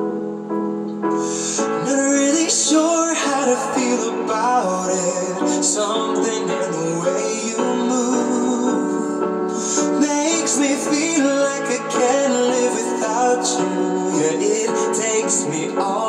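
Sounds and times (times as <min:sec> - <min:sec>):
instrumental backing track: 0:00.0 - 0:16.0
man singing into a microphone: 0:01.3 - 0:16.0.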